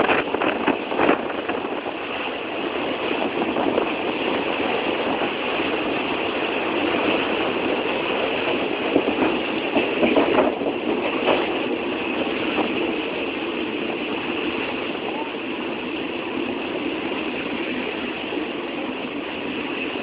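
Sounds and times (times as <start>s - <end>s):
train rumbling and rattling: 0.0s - 20.0s.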